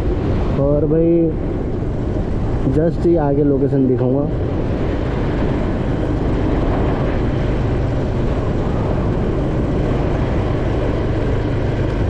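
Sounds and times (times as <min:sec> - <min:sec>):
vehicle rumble in motion: 0:00.0 - 0:12.0.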